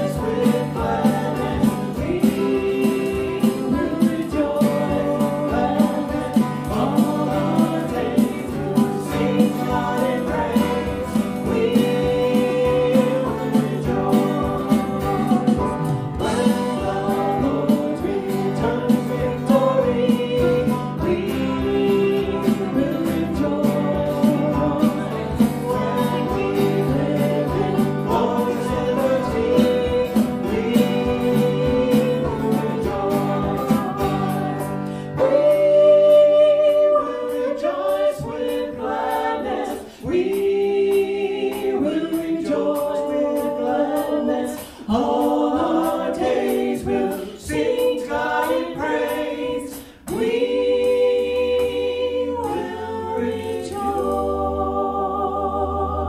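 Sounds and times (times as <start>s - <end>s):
woman singing hymn: 0.0s - 54.2s
strummed acoustic guitar: 0.0s - 54.8s
men singing: 0.0s - 56.0s.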